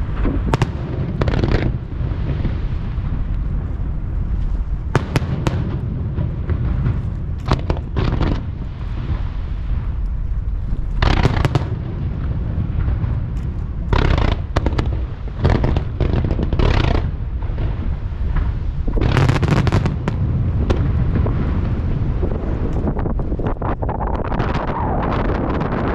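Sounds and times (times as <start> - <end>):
fireworks booming: 0.0 - 25.9
fireworks crackling: 0.0 - 25.9.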